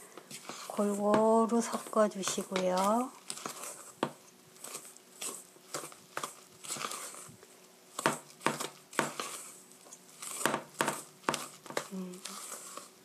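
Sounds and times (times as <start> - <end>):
spatula scraping mixing bowl: 0.0 - 13.0.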